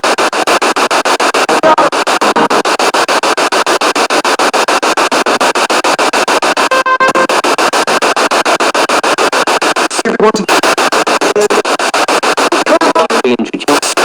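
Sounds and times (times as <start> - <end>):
brief steady broadcast tone: 0.0 - 14.0
radio static sweeping stations: 0.0 - 14.0.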